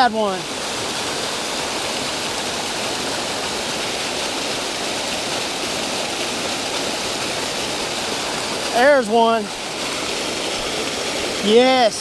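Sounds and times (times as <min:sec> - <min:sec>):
rushing water pouring: 0:00.0 - 0:12.0.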